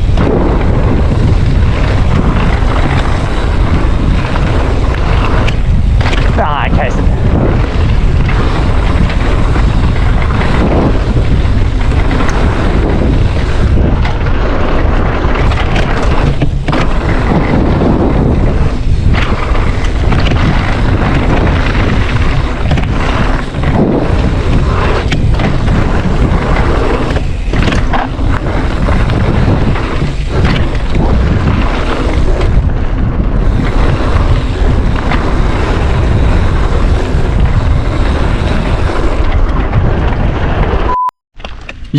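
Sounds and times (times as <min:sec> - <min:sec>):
wind buffeting microphone: 0:00.0 - 0:40.9
bike knocks and rattles: 0:00.0 - 0:41.9.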